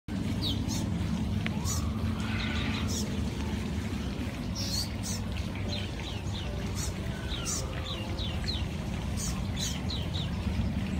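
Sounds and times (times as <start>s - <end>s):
small birds chirping: 0.2s - 3.3s, 3.9s - 10.9s.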